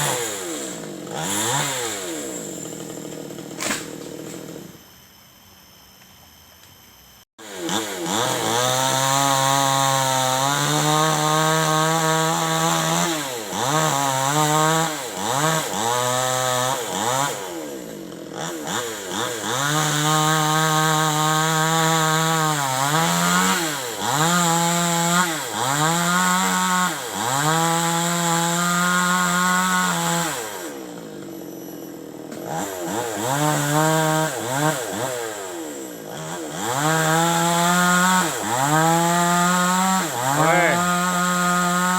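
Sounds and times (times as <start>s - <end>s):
chainsaw cutting wood: 0.0s - 5.0s, 7.4s - 41.9s.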